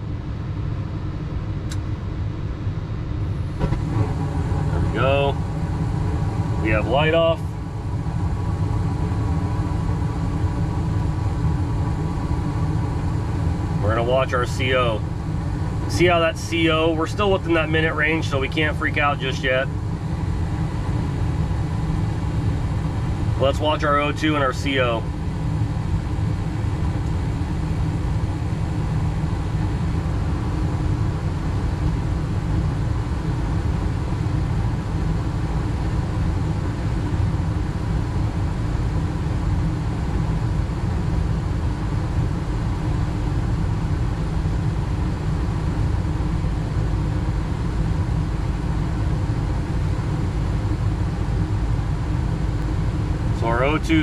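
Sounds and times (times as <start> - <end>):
gas furnace running: 0.0 - 54.0.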